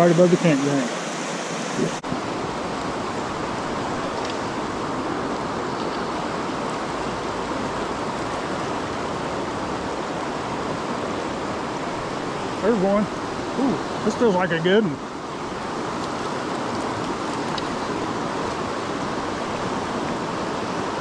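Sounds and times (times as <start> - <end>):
river running over rocks: 0.0 - 21.0.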